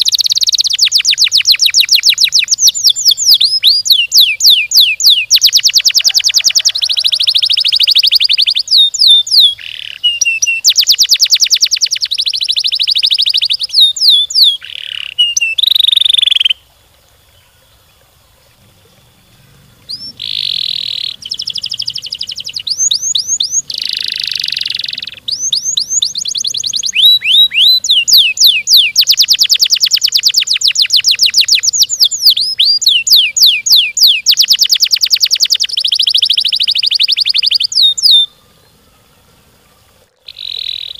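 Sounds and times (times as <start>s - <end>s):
canary singing trills: 0.0s - 16.6s, 17.3s - 40.9s.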